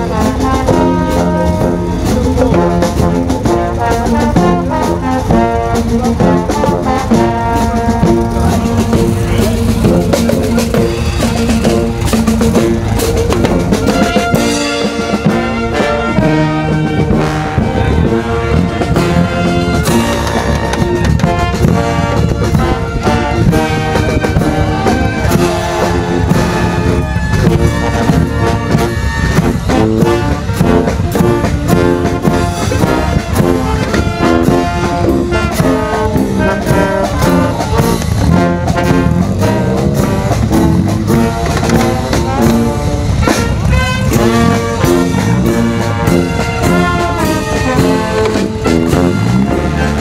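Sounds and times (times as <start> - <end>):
brass band playing: 0.0 - 50.0
steady drum beat: 0.0 - 50.0.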